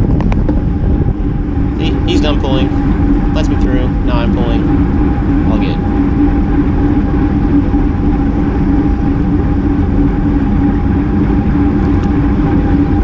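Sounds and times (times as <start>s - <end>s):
steady low hum: 0.0s - 13.0s
wind rushing over camera: 0.0s - 13.0s.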